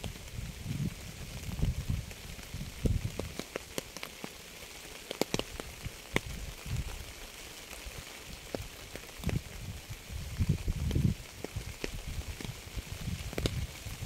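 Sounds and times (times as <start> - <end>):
rain hissing: 0.0 - 14.0
raindrops clicking: 0.0 - 14.0.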